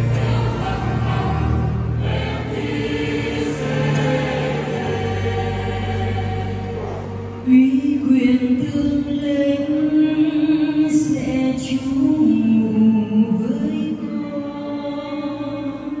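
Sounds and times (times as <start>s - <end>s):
choir holding a chord: 0.0s - 16.0s.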